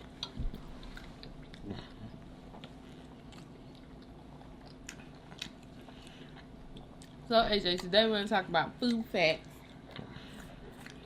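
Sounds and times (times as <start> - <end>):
person chewing food: 0.0 - 7.9, 9.4 - 11.0.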